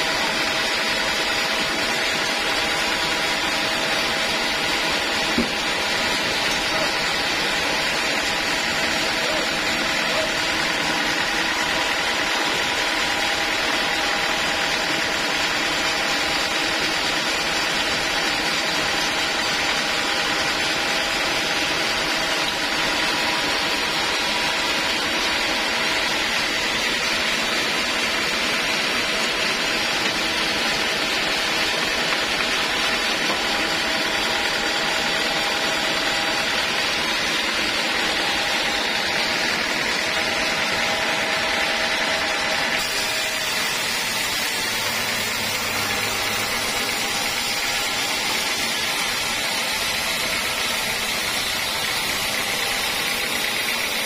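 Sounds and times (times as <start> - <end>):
bandsaw sawmill running: 0.0 - 54.0.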